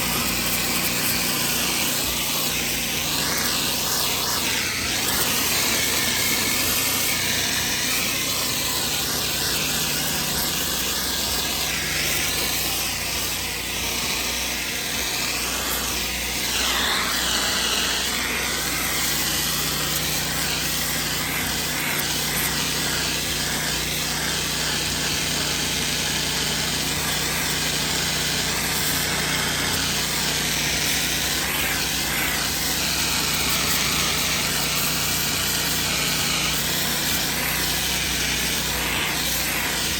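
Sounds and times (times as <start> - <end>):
pressure washer engine humming: 0.0 - 39.9
water spraying on concrete: 0.0 - 39.9.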